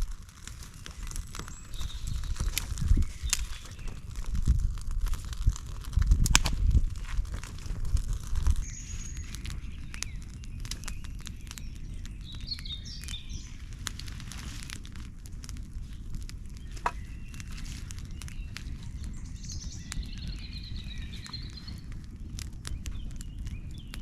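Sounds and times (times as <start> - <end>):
small clicks and crackles: 0.0 - 24.0
small birds chirping: 0.1 - 6.0, 6.6 - 24.0.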